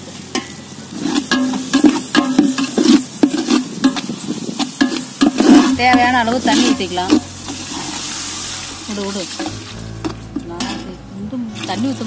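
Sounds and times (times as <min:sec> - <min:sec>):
metal ladle scraping a pot: 0:00.4 - 0:12.0.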